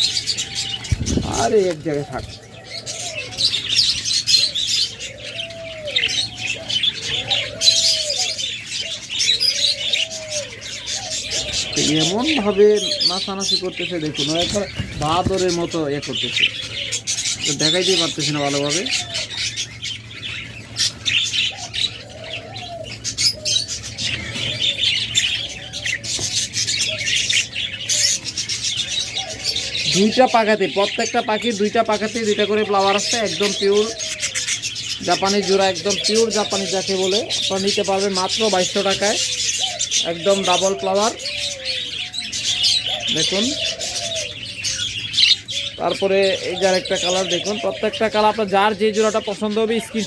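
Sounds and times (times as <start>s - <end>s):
budgerigars chirping: 0.0s - 50.0s
dove cooing: 0.0s - 50.0s.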